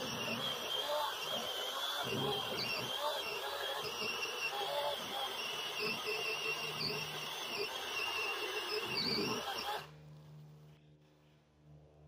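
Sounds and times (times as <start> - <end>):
chainsaw whining at full throttle: 0.0 - 9.9.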